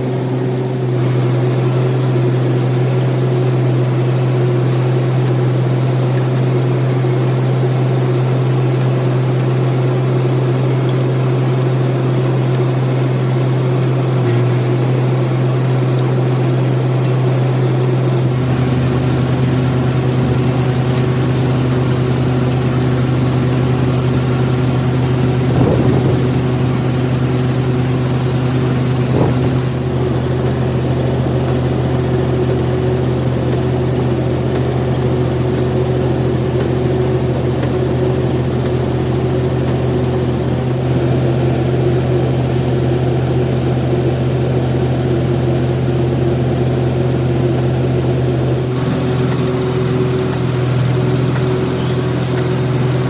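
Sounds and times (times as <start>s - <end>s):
lathe humming: 0.0s - 53.0s.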